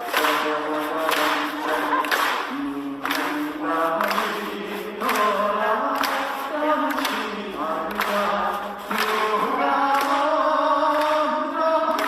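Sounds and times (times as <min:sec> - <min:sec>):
person singing over backing track: 0:00.0 - 0:12.0.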